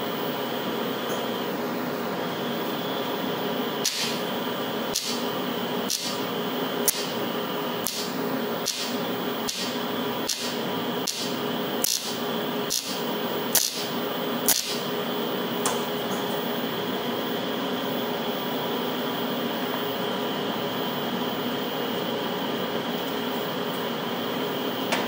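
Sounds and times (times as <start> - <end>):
welding arc hum: 0.0 - 25.0.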